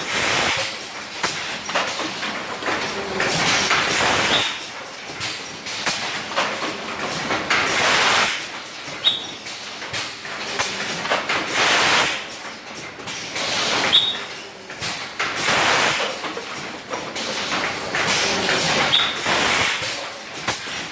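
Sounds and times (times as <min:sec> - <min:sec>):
machine clicks and knocks: 0:00.5 - 0:20.9.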